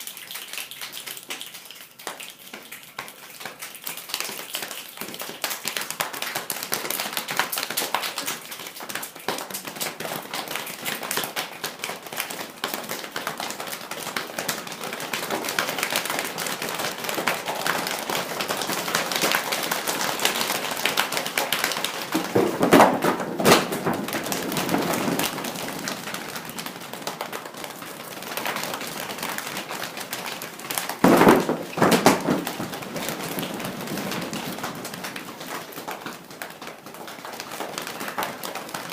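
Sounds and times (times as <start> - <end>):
pattering of small taps: 2.0 - 38.9.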